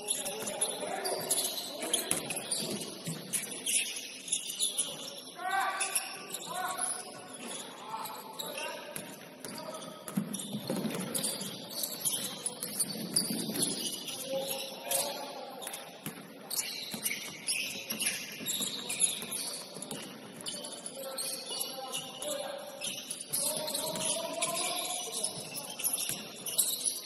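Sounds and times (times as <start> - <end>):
sneakers squeaking on court: 0.0 - 27.0.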